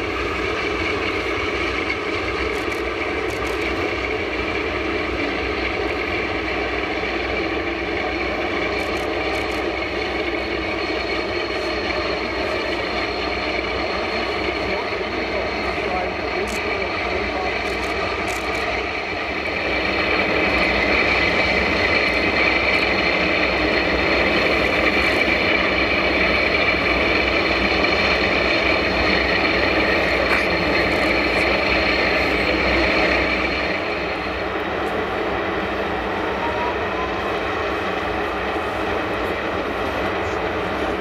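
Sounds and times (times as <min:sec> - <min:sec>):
jet engine turbine whine: 0:00.0 - 0:41.0.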